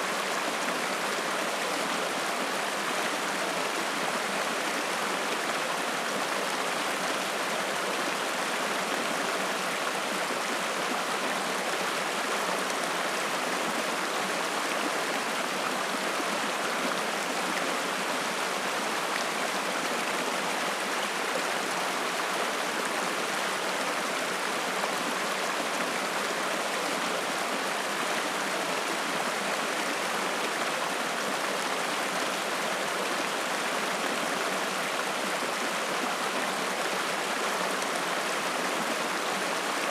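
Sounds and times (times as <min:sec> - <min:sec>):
stream flowing and splashing: 0:00.0 - 0:39.9.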